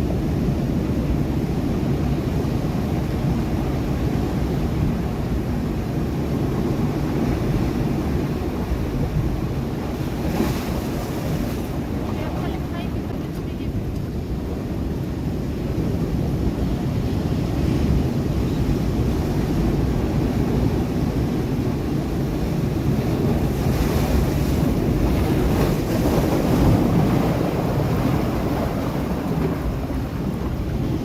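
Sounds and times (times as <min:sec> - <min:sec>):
wind rumble on microphone: 0:00.0 - 0:31.0
waves breaking against rocks: 0:00.3 - 0:31.0.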